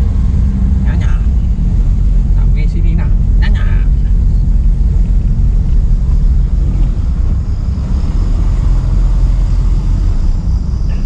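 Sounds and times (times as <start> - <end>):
loud low rumble: 0.0 - 11.0.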